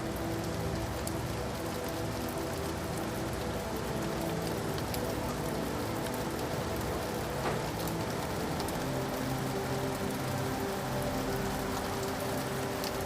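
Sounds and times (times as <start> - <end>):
steady rain falling: 0.0 - 13.0
raindrops clicking on a surface: 0.1 - 13.0.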